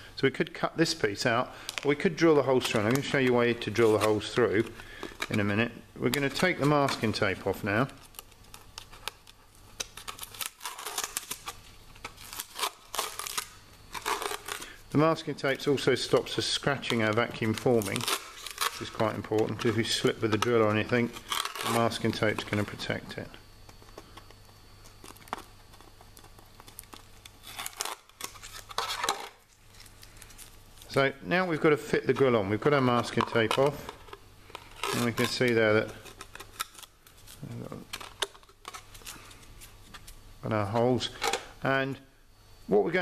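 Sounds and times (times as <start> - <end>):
steady low hum: 0.0 - 43.0
tape peeling off plastic: 1.6 - 14.8, 15.4 - 23.0, 23.6 - 31.1, 31.9 - 40.2.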